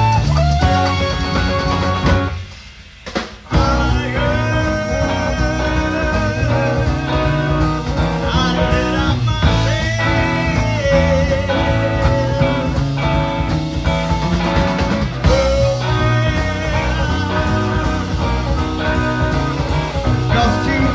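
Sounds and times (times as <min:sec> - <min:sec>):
wavering guitar lead line: 0:00.0 - 0:02.4, 0:03.5 - 0:20.9
rock band playing: 0:00.0 - 0:20.9.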